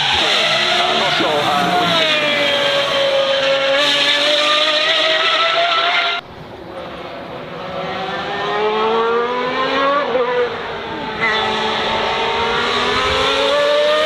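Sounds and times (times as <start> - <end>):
car accelerating hard: 0.0 - 6.2, 7.5 - 14.0
racing car engine revving: 0.0 - 6.2, 7.5 - 14.0.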